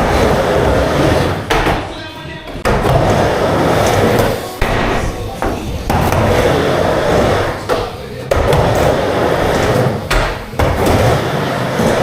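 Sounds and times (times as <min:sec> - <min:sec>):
skateboard clacking: 0:00.0 - 0:01.9, 0:02.6 - 0:12.0
skateboard wheels rolling: 0:00.0 - 0:01.9, 0:02.6 - 0:12.0.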